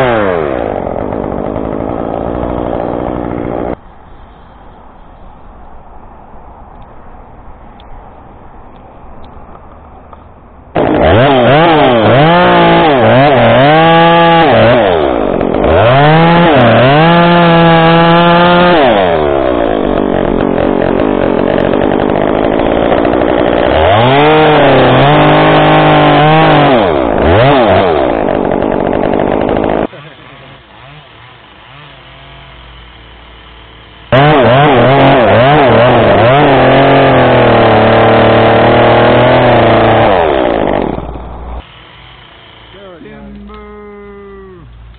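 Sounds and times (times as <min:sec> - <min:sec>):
chainsaw cutting wood: 0:00.0 - 0:03.8, 0:10.7 - 0:43.6.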